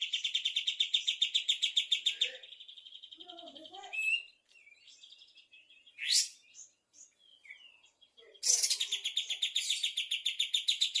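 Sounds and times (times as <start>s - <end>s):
songbird chirping and trilling: 0.0s - 11.0s.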